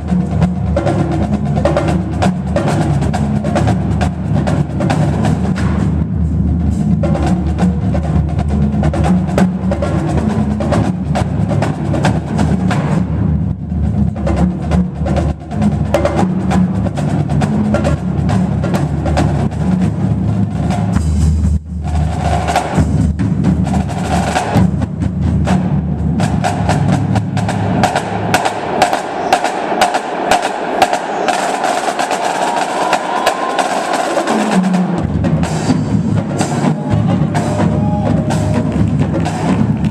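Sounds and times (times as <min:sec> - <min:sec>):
pitched bass drums: 0:00.0 - 0:39.9
snare drums: 0:00.0 - 0:39.9
tenor drums: 0:00.0 - 0:39.9.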